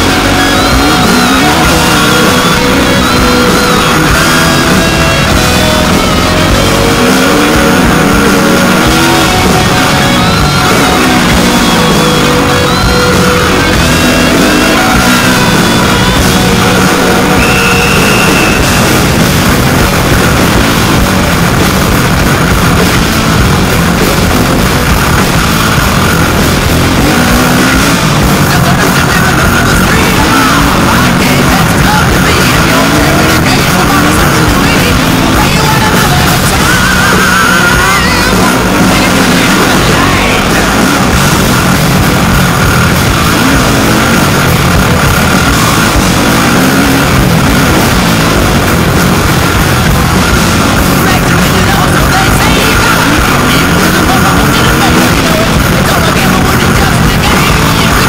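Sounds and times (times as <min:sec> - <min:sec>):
loud rock music: 0:00.0 - 0:58.0
motorbike engine revving: 0:00.0 - 0:58.0.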